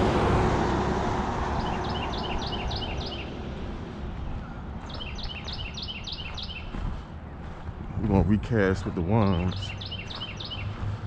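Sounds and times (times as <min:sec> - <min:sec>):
road traffic rushing: 0:00.0 - 0:11.0
songbird chirping: 0:01.4 - 0:11.0.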